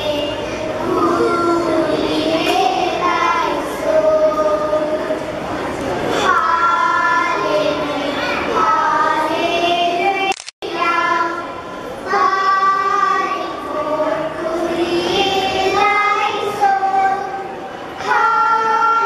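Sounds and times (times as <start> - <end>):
children singing: 0.0 - 19.0.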